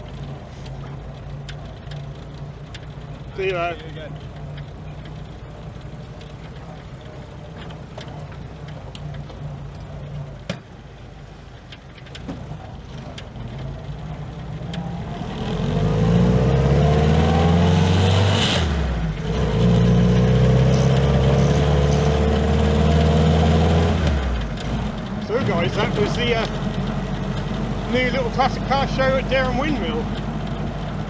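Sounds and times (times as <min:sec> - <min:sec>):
car engine pulling away: 0:00.0 - 0:31.0
gear change clunk: 0:00.0 - 0:31.0.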